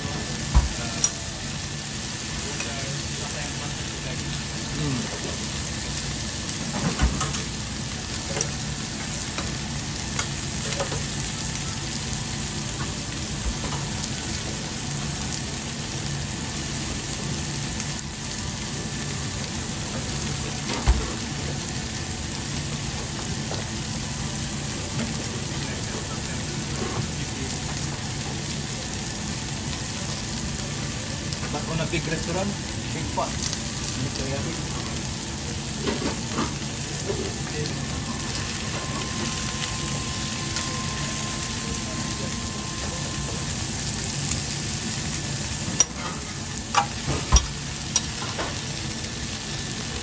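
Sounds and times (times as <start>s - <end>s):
food sizzling on a griddle: 0.0s - 50.0s.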